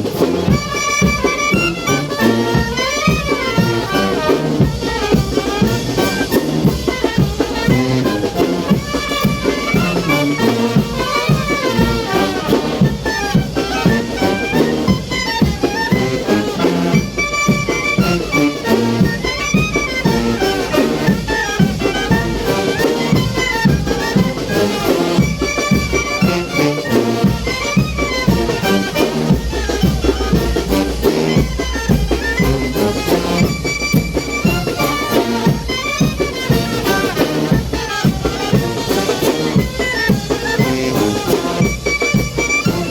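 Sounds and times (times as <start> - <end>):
brass band playing dance music: 0.0 - 42.9
steady drum beat: 0.0 - 42.9.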